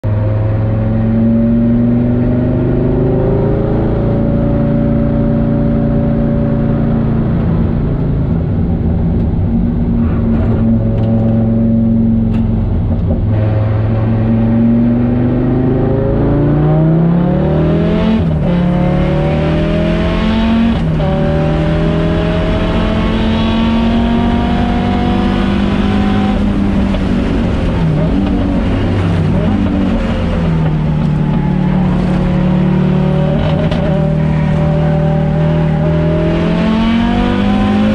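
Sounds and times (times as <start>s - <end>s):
rally car engine accelerating: 0.0s - 37.9s.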